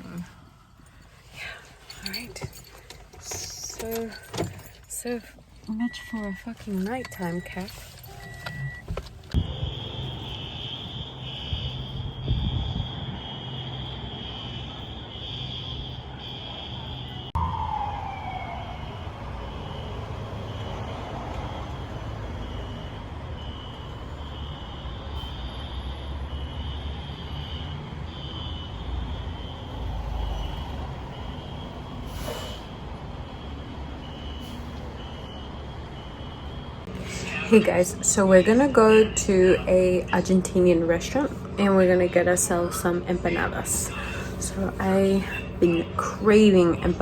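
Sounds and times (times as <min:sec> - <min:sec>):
fire alarm pulsed tone: 0:00.1 - 0:47.0.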